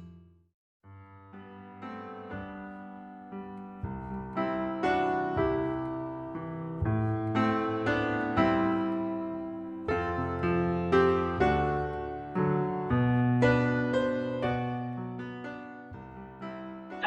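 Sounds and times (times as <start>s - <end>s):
gentle piano piece: 0.9s - 17.0s.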